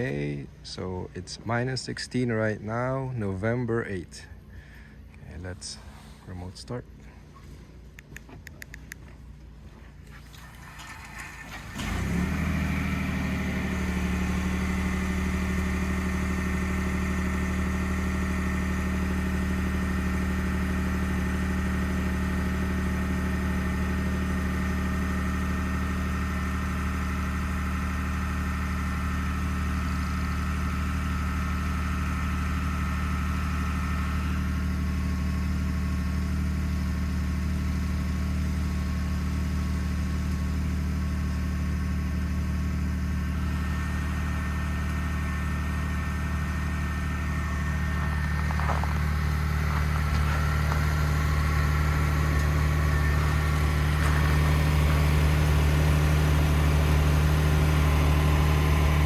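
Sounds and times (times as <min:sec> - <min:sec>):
truck engine starting and idling: 0:00.0 - 0:59.0.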